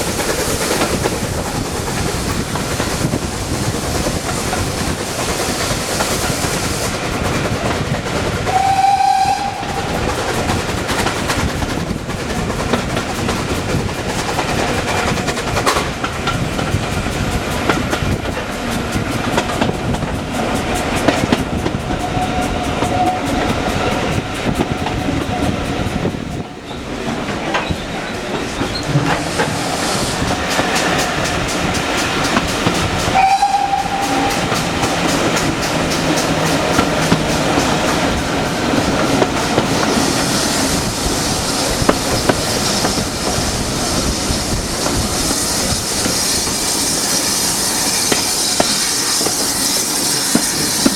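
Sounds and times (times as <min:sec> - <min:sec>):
train wheels clacking over rail joints: 0:00.0 - 0:50.9.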